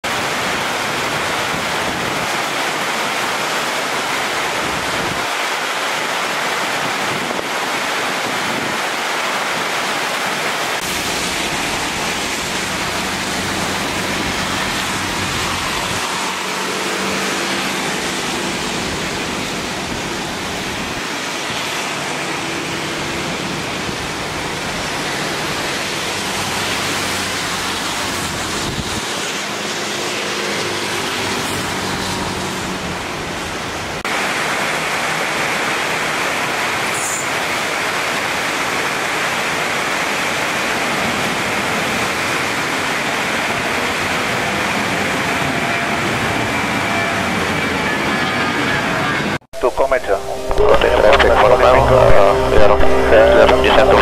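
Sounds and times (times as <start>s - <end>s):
heavy rain pouring: 0.0s - 48.2s, 48.9s - 54.0s.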